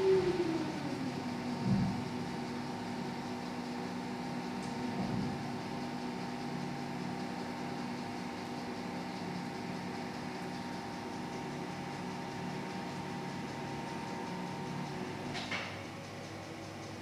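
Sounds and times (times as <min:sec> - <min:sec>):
motor drive humming and whining: 0:00.0 - 0:17.0.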